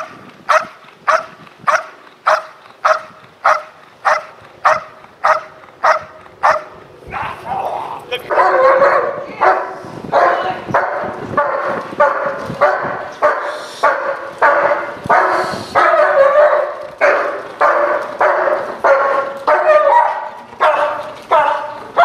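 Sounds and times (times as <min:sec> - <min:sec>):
dog barking loudly: 0:00.0 - 0:06.8, 0:08.3 - 0:22.0.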